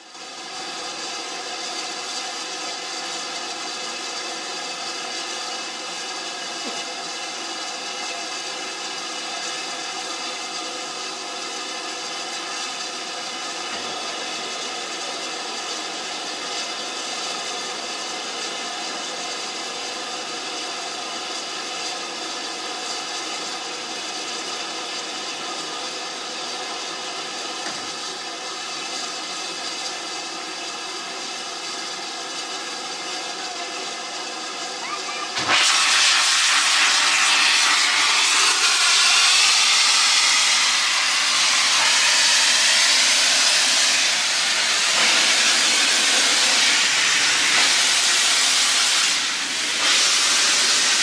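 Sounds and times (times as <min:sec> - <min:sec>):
steam hissing from a locomotive: 0:00.0 - 0:51.0.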